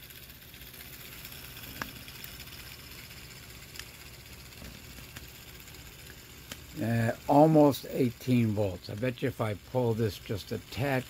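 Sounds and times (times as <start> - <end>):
motor rotor humming with hiss: 0.0 - 11.0.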